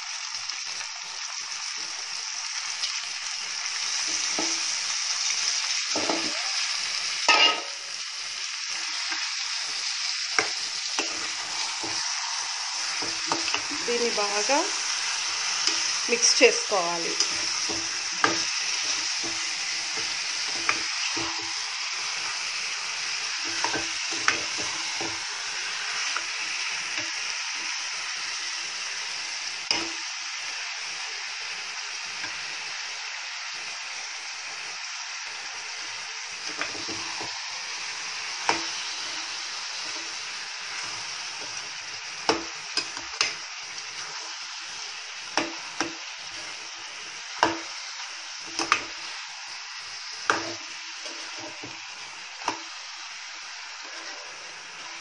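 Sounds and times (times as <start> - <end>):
chicken sizzling in hot oil: 0.0 - 55.0.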